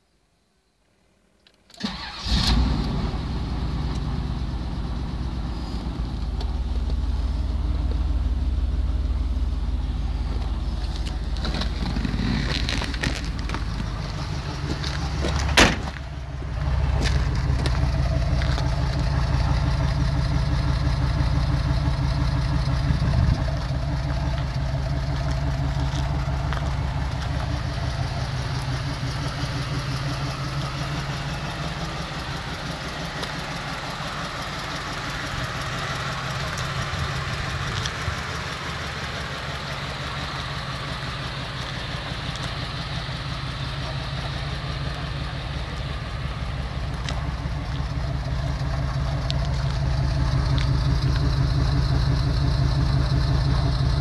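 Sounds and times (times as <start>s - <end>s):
car engine idling: 1.8s - 54.0s.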